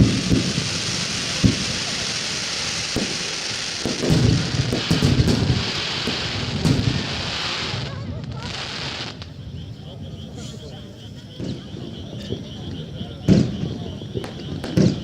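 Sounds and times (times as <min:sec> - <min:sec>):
firework shells booming: 0:00.0 - 0:09.4, 0:11.3 - 0:15.0
crackling hiss of firework stars: 0:00.0 - 0:15.0.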